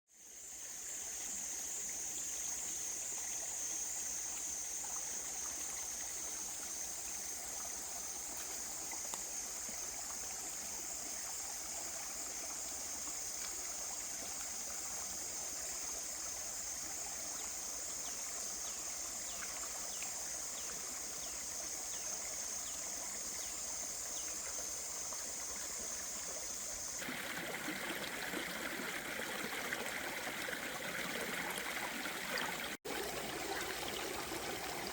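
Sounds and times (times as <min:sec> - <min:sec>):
stream water running: 0:00.1 - 0:34.9.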